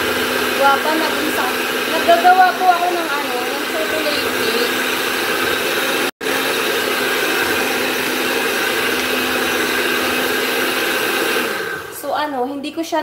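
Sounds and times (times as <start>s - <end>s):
electric mixer whirring: 0.0s - 12.2s.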